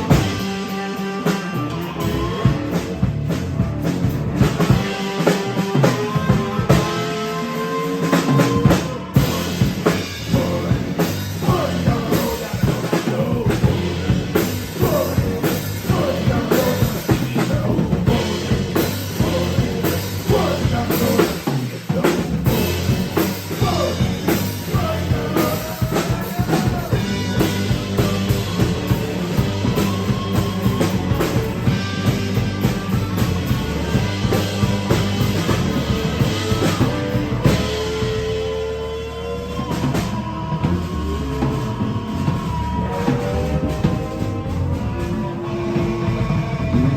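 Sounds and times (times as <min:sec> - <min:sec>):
drum kit driving beat: 0:00.0 - 0:46.9
rock band playing: 0:00.0 - 0:46.9.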